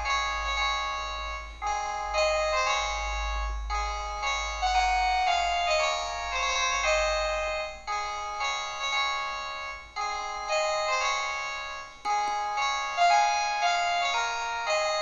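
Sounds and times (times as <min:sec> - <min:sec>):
phone ringtone melody: 0:00.0 - 0:15.0.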